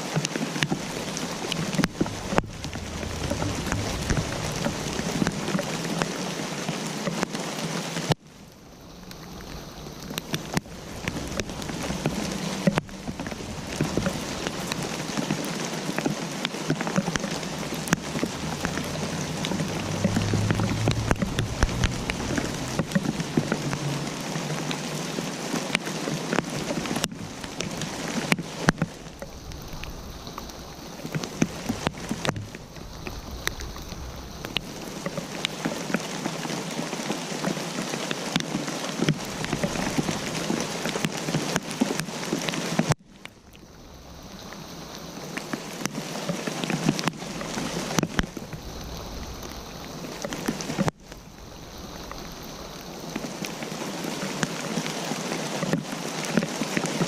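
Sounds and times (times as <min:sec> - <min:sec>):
rain drops ticking on hard surface: 0:00.0 - 0:57.0.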